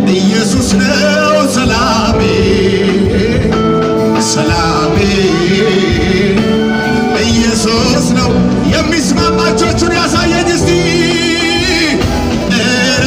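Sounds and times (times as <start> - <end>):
band playing a steady beat: 0.0 - 13.0
person singing: 0.0 - 13.0.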